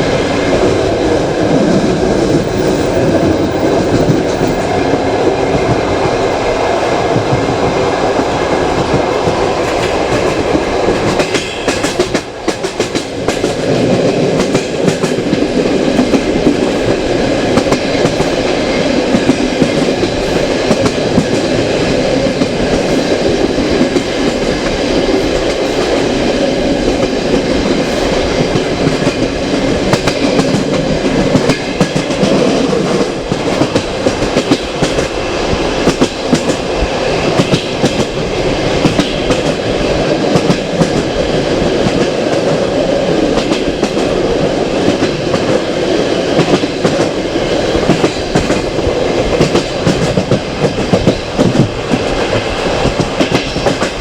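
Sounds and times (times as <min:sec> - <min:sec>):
train rumbling: 0:00.0 - 0:54.0
wheels clattering on rails: 0:00.5 - 0:54.0.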